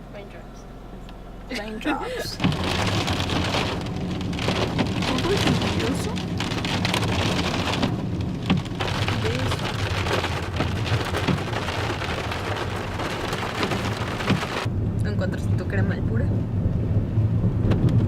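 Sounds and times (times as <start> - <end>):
low rumble: 0.0 - 18.0
rain patter: 2.1 - 18.0.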